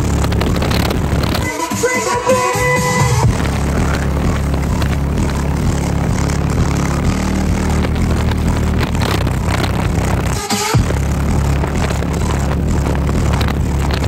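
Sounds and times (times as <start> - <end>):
subwoofer bass droning: 0.0 - 14.0.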